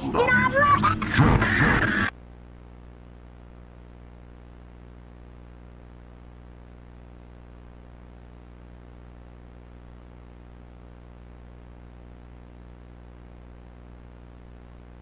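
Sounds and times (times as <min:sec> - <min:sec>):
low buzzing hum: 0:00.0 - 0:15.0
faint static hiss: 0:00.6 - 0:15.0.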